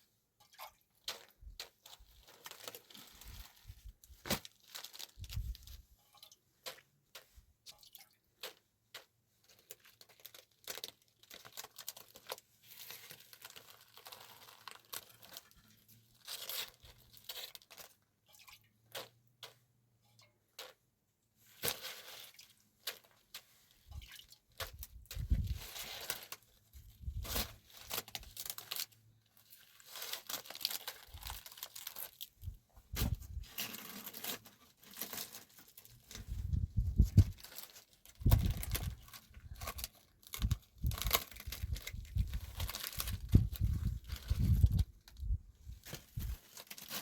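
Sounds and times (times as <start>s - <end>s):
crunching and rustling handling: 1.0s - 7.6s, 8.4s - 18.2s, 21.4s - 47.0s.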